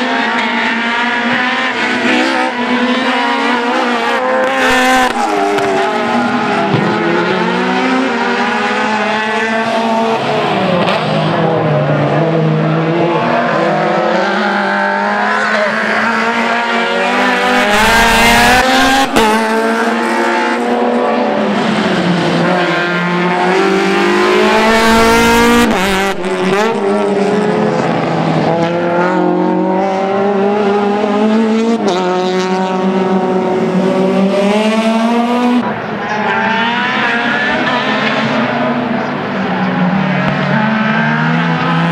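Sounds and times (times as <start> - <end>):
race car engines revving: 0.0 - 41.9.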